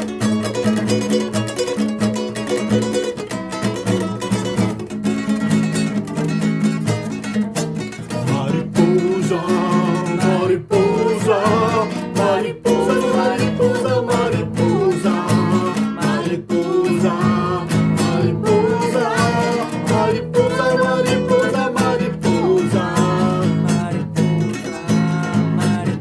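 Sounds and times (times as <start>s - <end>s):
out of tune acoustic guitar: 0.0s - 26.0s.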